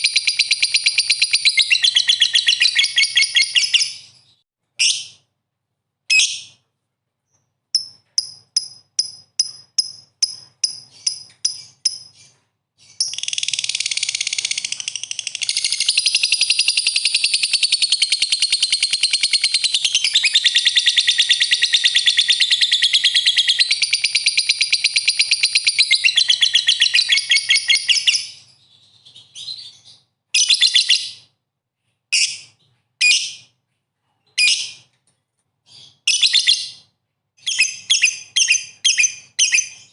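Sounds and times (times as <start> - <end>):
lovebird chirping and singing: 0.0 - 5.2, 7.8 - 31.3, 35.7 - 36.8, 37.4 - 39.9.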